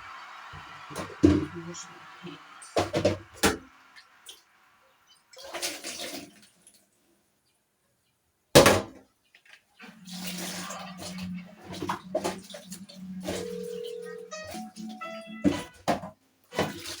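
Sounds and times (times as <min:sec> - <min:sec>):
water splashing: 0:00.0 - 0:06.9, 0:09.5 - 0:17.0.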